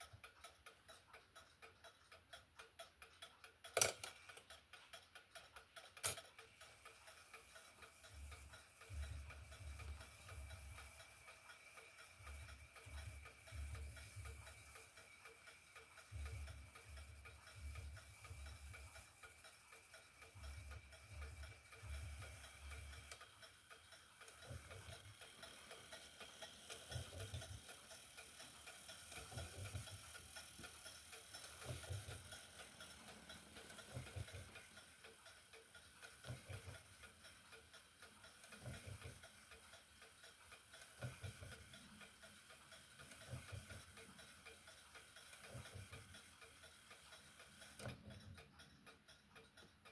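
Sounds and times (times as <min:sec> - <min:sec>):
wall clock ticking: 0:00.0 - 0:49.9.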